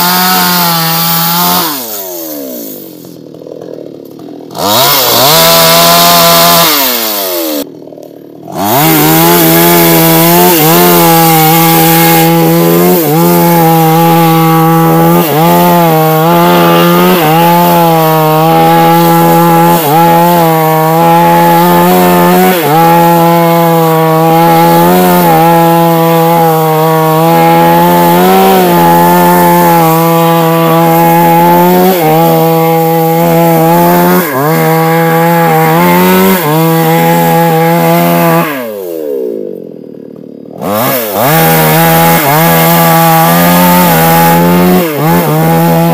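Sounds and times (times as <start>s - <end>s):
chainsaw cutting trunk: 0.0s - 45.9s.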